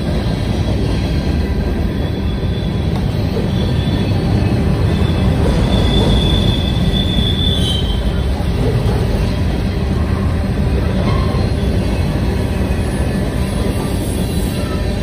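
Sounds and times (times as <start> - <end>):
train wheels rumbling on rail: 0.0 - 15.0
high wheel squeal: 1.7 - 10.2, 10.9 - 15.0.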